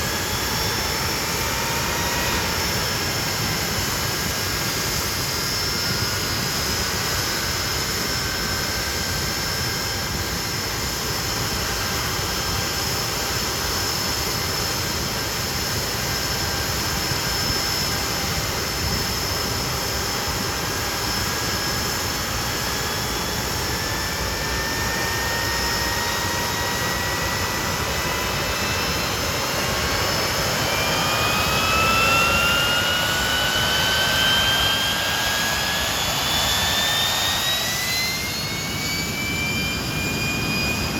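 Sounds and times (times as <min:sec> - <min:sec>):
jet engines roaring and whining: 0:00.0 - 0:40.9.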